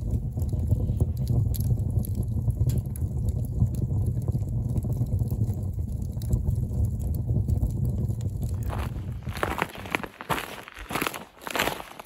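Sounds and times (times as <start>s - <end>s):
faint fire crackles: 0.0s - 12.0s
fire rumbling in wood stove: 0.0s - 12.0s.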